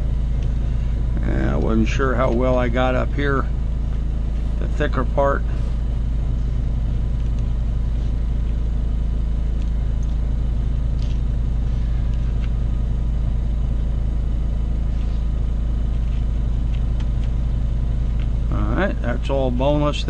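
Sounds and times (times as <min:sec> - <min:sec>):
steady low drone: 0:00.0 - 0:20.0.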